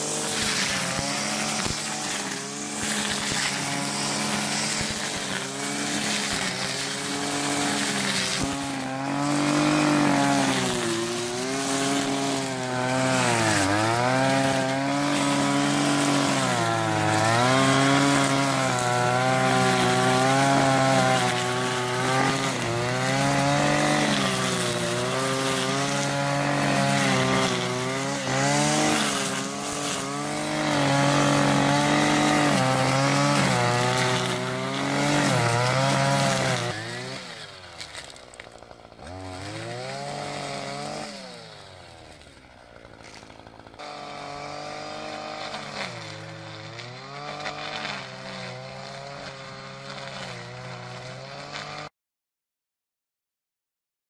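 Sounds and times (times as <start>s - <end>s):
brushcutter cutting grass: 0.0s - 51.9s.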